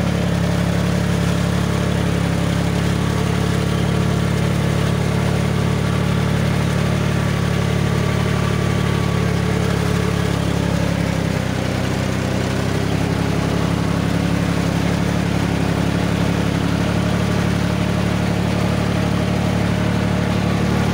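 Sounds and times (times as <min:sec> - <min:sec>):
jeep engine running: 0:00.0 - 0:20.9.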